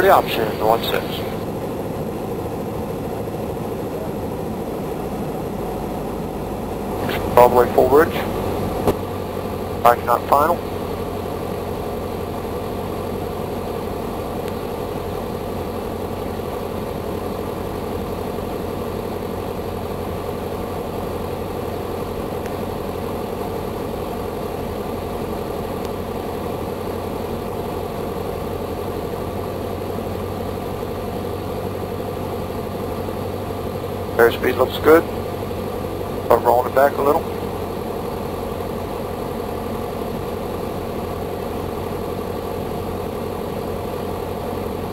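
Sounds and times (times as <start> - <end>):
aircraft engine and propeller drone: 0.0 - 44.9.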